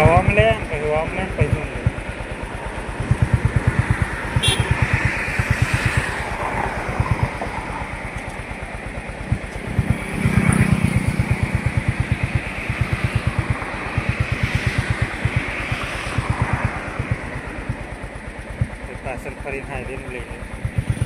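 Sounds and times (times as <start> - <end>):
passing vehicle rush: 0.0 - 21.0
road noise: 0.0 - 21.0
vehicle engine pulsing: 0.0 - 21.0.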